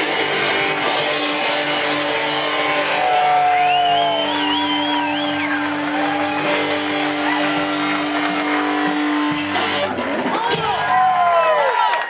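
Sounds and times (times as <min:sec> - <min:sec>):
electric guitar sustained note: 0:00.0 - 0:10.3
high squealing guitar line: 0:00.0 - 0:10.9.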